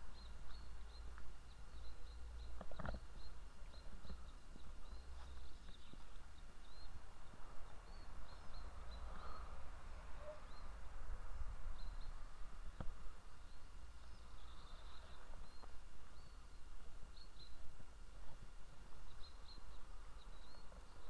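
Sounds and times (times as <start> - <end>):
small bird chirping: 0.0 - 10.8, 11.7 - 12.3, 13.1 - 17.7, 18.7 - 21.0.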